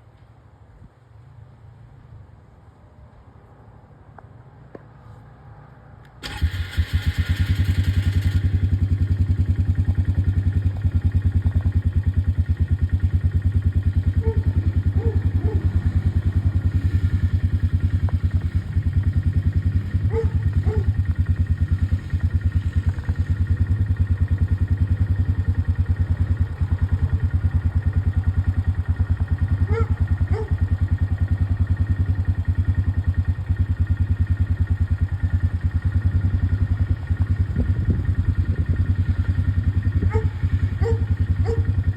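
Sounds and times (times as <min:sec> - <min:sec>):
atv engine idling: 0:06.2 - 0:41.9
atv engine starting: 0:06.2 - 0:41.9.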